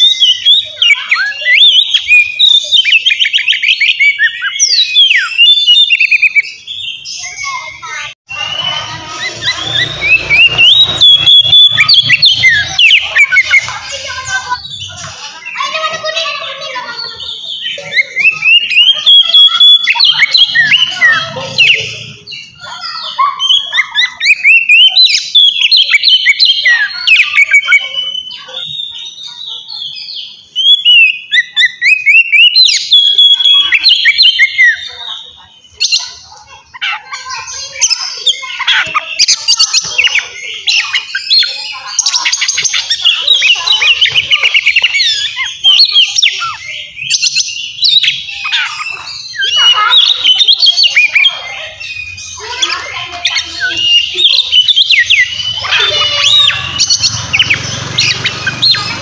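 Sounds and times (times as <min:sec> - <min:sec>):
bird singing whistled phrases: 0:00.0 - 0:16.0, 0:16.7 - 0:59.0
bird harsh chattering: 0:00.0 - 0:59.0.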